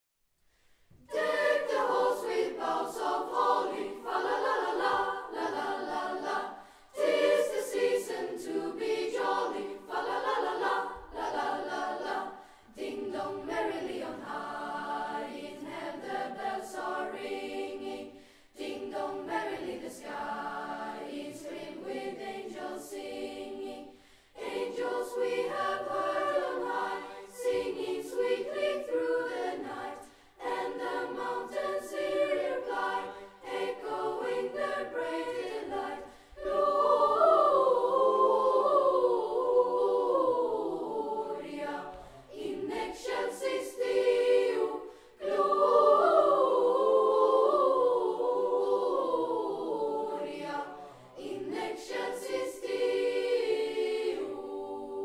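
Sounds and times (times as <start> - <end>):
youth choir singing carols: 1.1 - 55.0.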